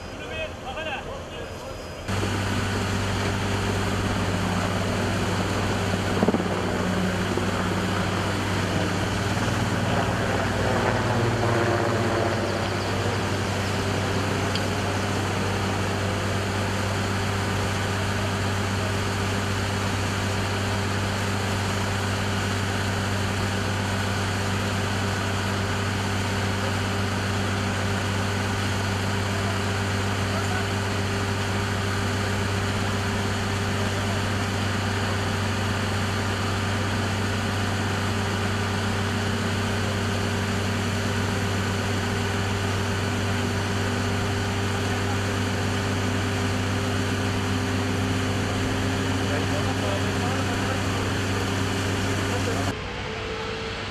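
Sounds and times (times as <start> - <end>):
truck engine and pump droning: 0.0 - 53.9.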